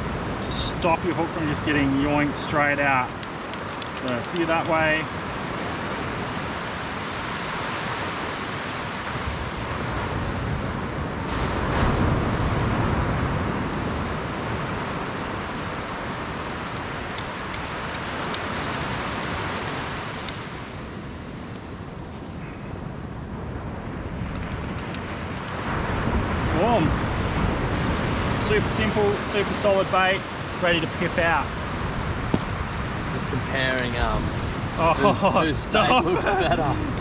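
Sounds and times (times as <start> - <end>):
surf: 0.0 - 37.0
wind: 0.0 - 37.0.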